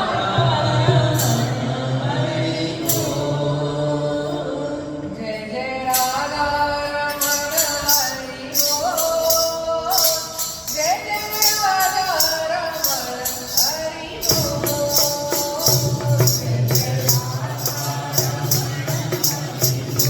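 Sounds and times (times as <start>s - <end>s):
jingling hand percussion: 0.0s - 4.9s, 5.8s - 20.0s.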